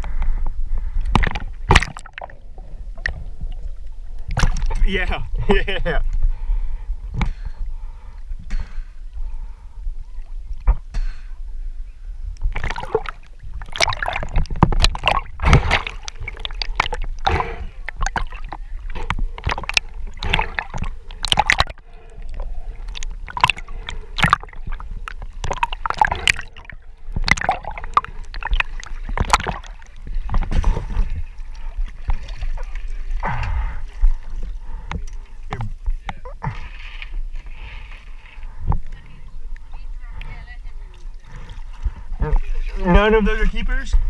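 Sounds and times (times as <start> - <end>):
water splashing and gurgling: 0.0 - 44.0.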